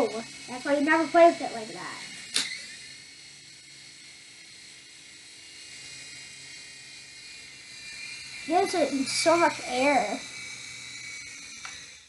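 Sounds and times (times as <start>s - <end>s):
toy helicopter rotor whirring: 0.0s - 12.0s.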